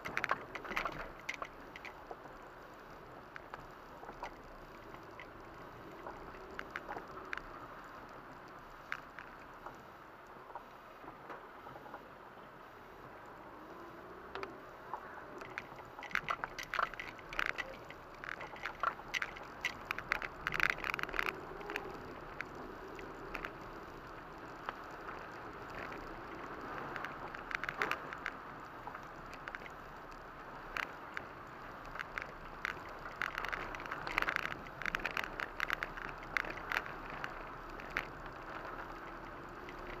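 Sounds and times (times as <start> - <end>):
rain on car roof: 0.0 - 40.0
tyres hissing on wet road: 0.1 - 11.0, 12.1 - 40.0.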